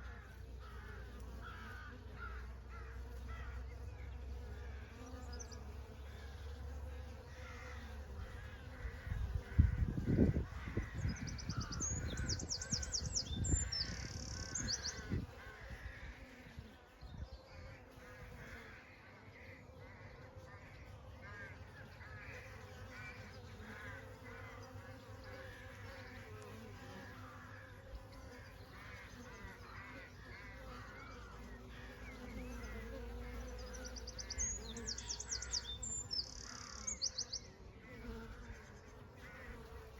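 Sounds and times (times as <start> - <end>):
birds calling: 0.0 - 6.4, 7.2 - 16.3, 17.4 - 39.9
bees buzzing: 0.0 - 39.9.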